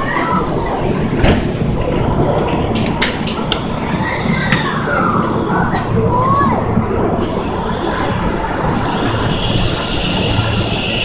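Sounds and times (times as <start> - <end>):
standing train humming: 0.0 - 11.0
voices: 0.0 - 11.0.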